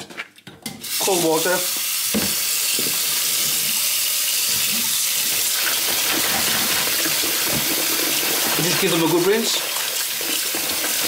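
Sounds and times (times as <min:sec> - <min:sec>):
tap water running into bowl: 0:00.8 - 0:11.0.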